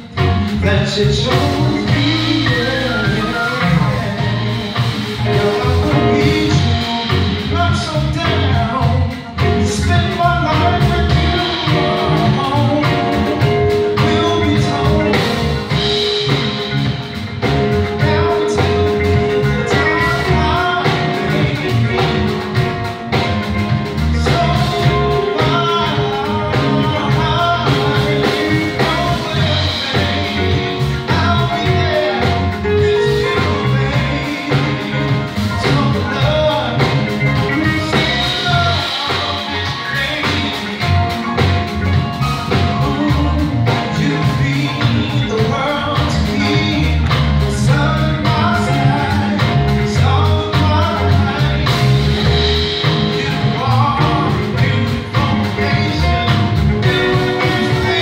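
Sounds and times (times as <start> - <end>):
bass line: 0.0 - 58.0
live band music: 0.0 - 58.0
steady drum beat: 0.0 - 58.0.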